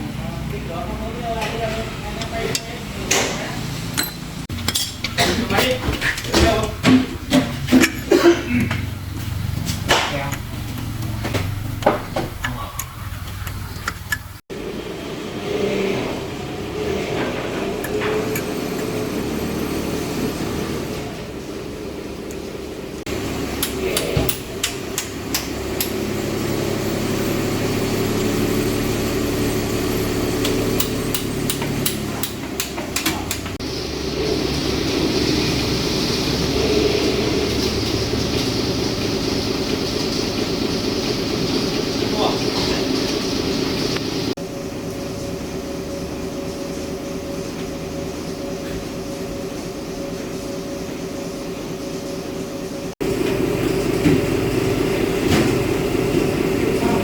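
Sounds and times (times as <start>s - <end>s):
engine hum: 0.0s - 57.0s
mechanical drone: 6.2s - 57.0s.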